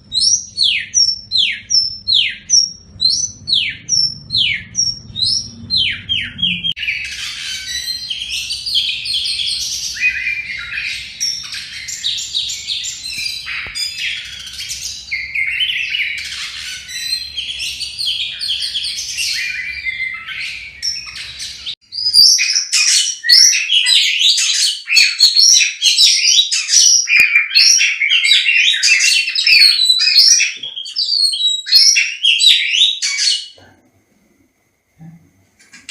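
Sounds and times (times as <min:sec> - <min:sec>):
bird singing varied song: 0:00.0 - 0:33.8.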